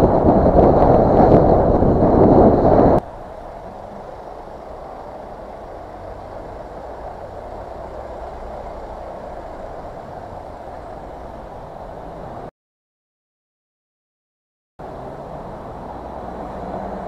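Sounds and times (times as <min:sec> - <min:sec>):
slow road traffic hum: 0:00.0 - 0:12.5, 0:14.8 - 0:17.0.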